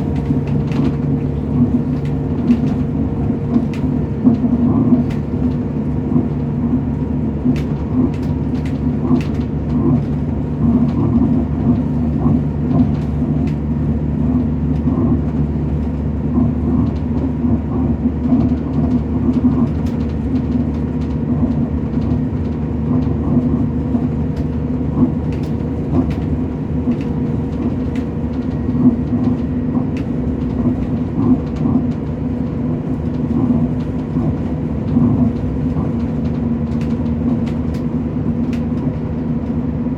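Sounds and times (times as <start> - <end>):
train engine drone: 0.0 - 39.9
train rumble: 0.0 - 39.9.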